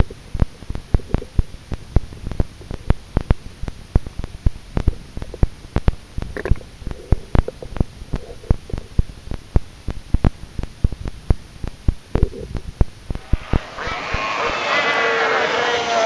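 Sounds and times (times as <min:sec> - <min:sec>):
sharp clicks underwater: 0:00.0 - 0:13.0.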